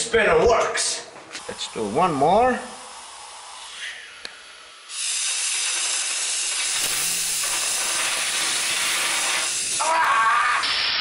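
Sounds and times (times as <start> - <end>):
compressed air hissing: 1.2 - 11.0.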